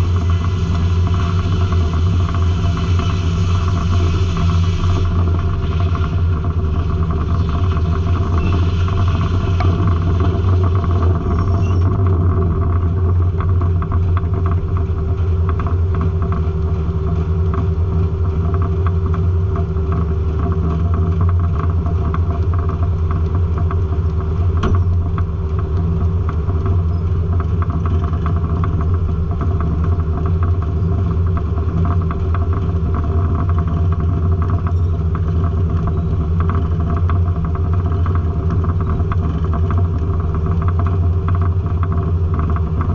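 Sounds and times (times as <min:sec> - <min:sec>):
low hum: 0:00.0 - 0:42.9
sawmill drone: 0:00.0 - 0:42.9.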